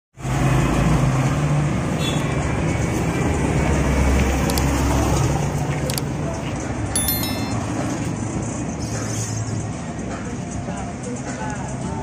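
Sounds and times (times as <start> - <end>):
road traffic noise: 0.2 - 12.0.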